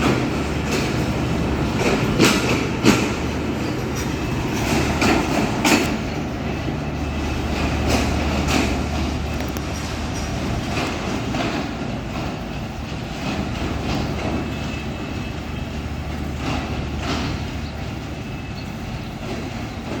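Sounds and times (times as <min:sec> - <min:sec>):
train rumble: 0:00.0 - 0:20.0
wheels clacking over rail joints: 0:00.0 - 0:20.0.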